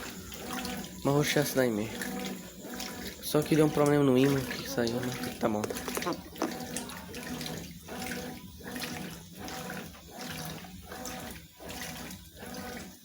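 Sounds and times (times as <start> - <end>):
washing machine motor hum: 0.0 - 13.0
water sloshing: 0.0 - 13.0.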